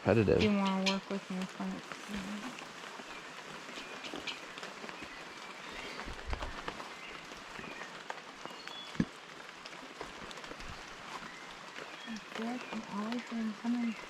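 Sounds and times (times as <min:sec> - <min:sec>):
outdoor hiss: 0:00.1 - 0:14.0.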